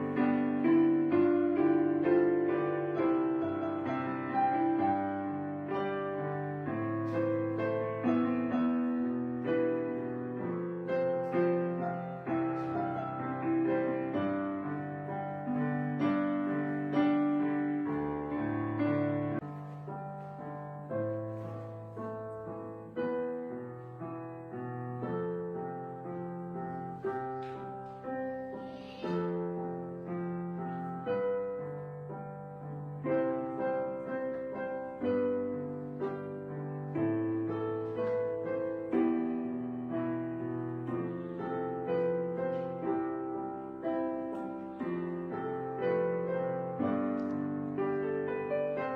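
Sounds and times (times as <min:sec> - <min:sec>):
piano music: 0:00.0 - 0:48.9.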